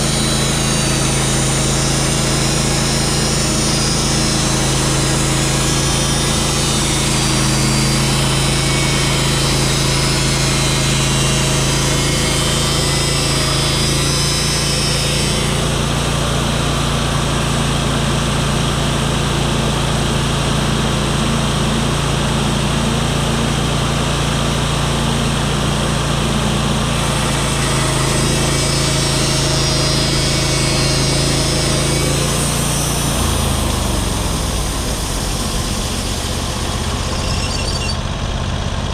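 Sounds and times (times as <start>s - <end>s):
saw blade cutting log: 0.0s - 38.2s
sawmill engine running: 0.0s - 38.9s.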